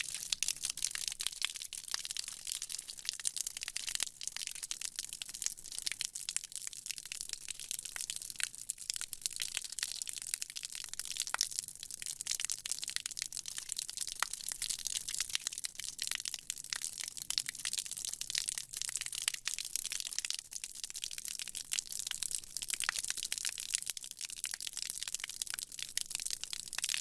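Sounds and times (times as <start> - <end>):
dense crackle of tiny pops: 0.0 - 27.0.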